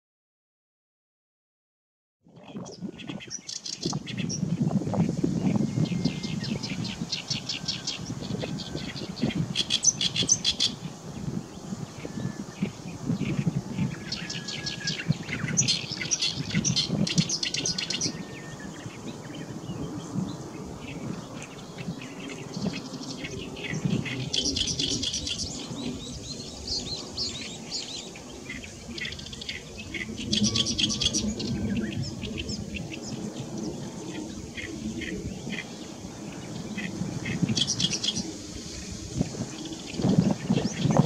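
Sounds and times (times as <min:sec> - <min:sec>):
reed warbler singing: 0:02.4 - 0:41.0.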